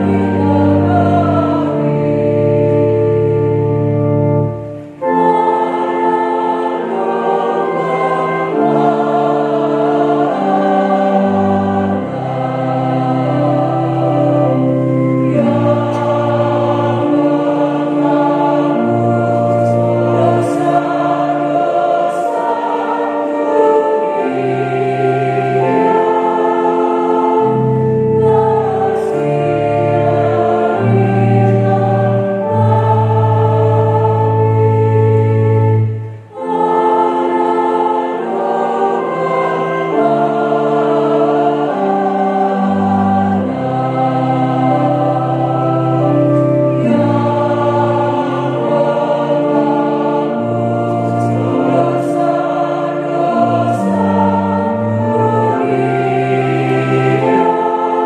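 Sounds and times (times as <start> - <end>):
choir singing a hymn: 0.0 - 58.0
electronic organ chords: 0.0 - 58.0.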